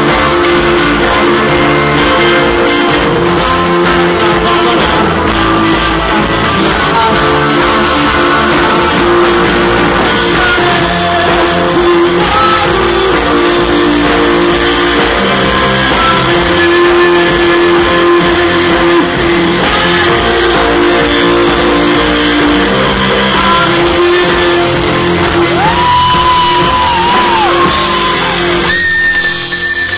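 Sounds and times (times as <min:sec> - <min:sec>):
bass guitar: 0:00.0 - 0:29.9
drums: 0:00.0 - 0:29.9
electric guitars: 0:00.0 - 0:29.9
person singing: 0:00.0 - 0:29.9.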